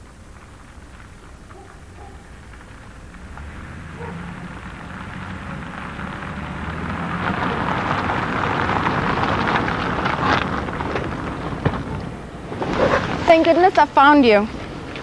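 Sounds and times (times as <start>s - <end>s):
car tyres hissing on slush: 0.0s - 15.0s.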